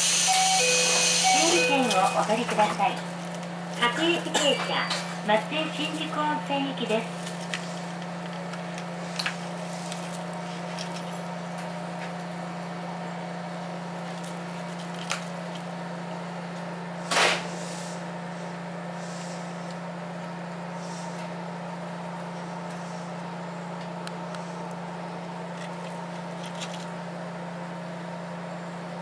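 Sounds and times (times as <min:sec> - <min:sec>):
electrical hum in train cab: 0:00.0 - 0:29.0.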